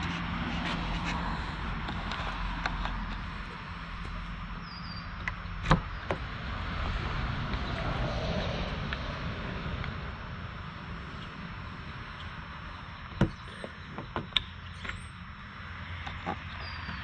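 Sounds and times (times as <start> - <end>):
distant traffic noise: 0.0 - 17.0.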